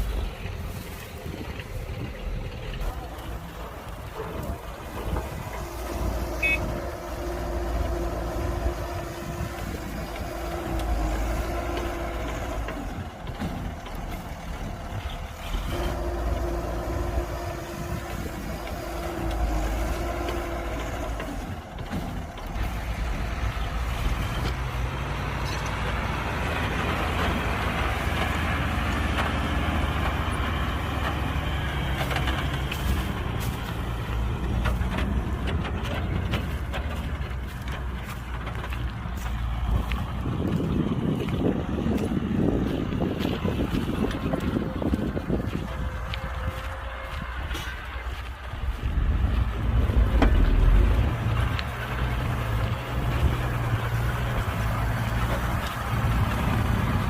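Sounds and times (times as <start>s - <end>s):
diesel machinery engines rumbling: 0.0s - 57.0s
rough machinery clatter: 0.0s - 57.0s.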